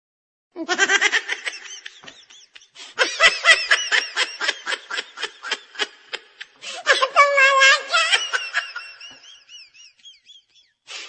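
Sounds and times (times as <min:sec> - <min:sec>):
person laughing: 0:00.6 - 0:11.0.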